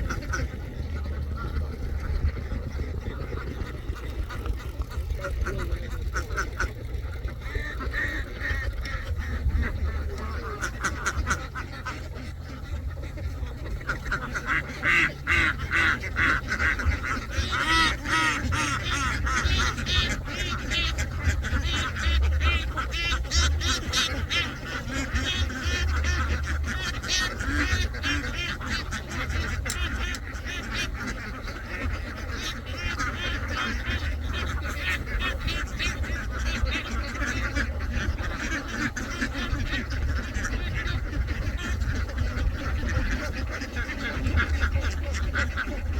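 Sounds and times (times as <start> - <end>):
ducks quacking: 0.0 - 45.9
low rumble: 0.0 - 45.9.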